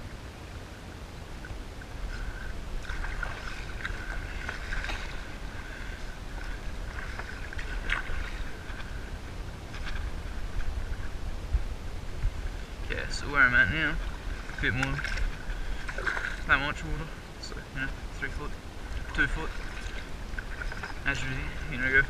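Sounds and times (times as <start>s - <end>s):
low wind rumble on microphone: 0.0s - 22.0s
paddle splashing water: 0.9s - 22.0s.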